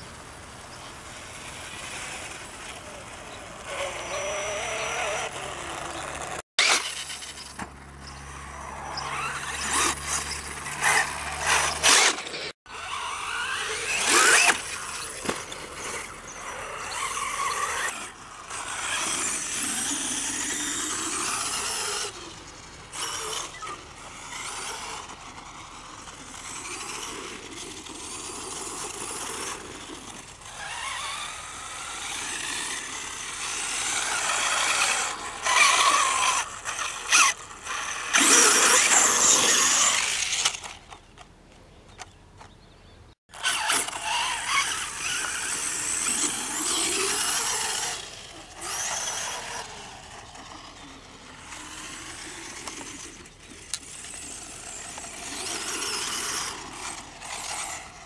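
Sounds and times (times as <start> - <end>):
electric rc car motors whining: 0.0 - 42.6, 43.3 - 58.0.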